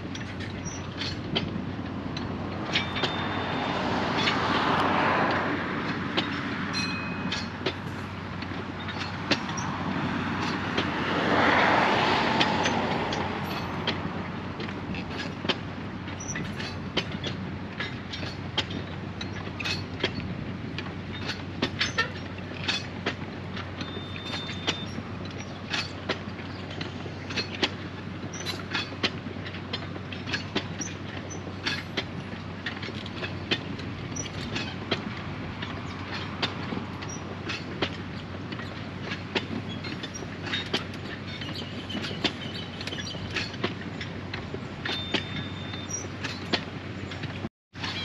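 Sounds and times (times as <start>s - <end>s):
train rumbling past: 0.0s - 48.0s
wheels and bins clanking: 0.0s - 48.0s.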